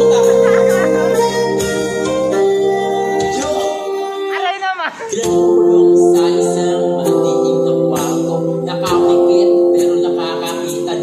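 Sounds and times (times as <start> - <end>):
long held music chords: 0.0 - 11.0.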